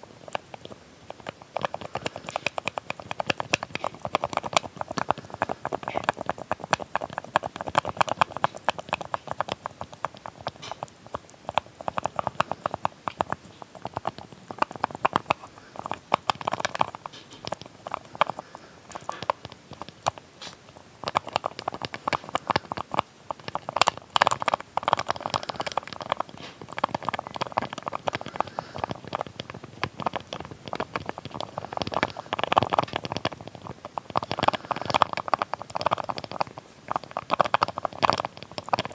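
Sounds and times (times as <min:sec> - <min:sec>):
small lid tapping and clicking: 0:00.3 - 0:38.9.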